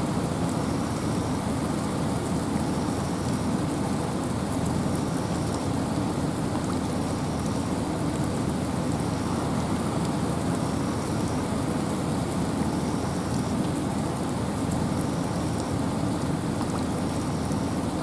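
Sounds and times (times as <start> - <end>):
rain drops ticking: 0.0 - 18.0
steady rain: 0.0 - 18.0
wind in a forest: 0.0 - 18.0.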